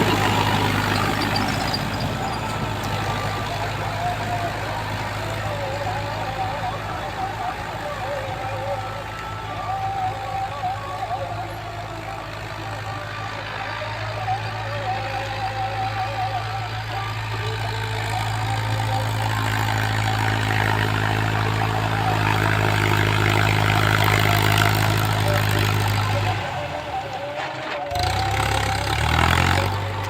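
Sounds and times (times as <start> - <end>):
rushing mechanical noise: 0.0 - 30.0
tractor diesel engine running: 0.0 - 30.0.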